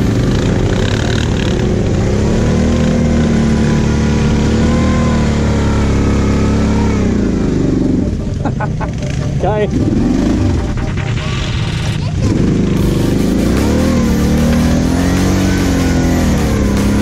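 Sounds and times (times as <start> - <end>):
quad engine running: 0.0 - 17.0.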